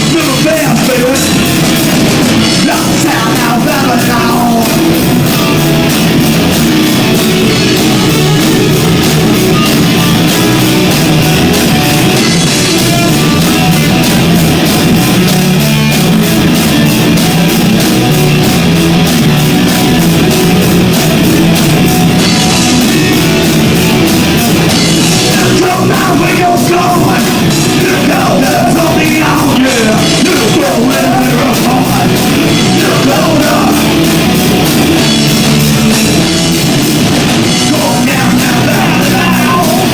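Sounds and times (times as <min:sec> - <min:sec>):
bass guitar: 0:00.0 - 0:39.9
drums: 0:00.0 - 0:39.9
electric guitar: 0:00.0 - 0:39.9.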